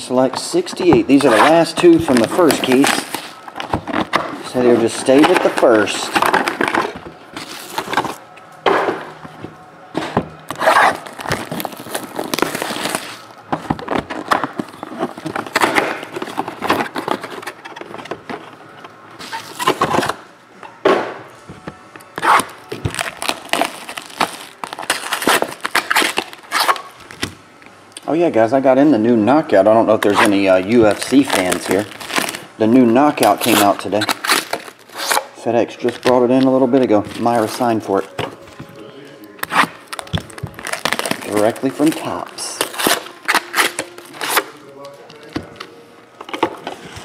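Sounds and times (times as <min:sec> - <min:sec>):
plastic shrink wrap crinkling: 0:00.2 - 0:08.3, 0:10.5 - 0:20.2, 0:22.0 - 0:27.4, 0:29.9 - 0:47.0.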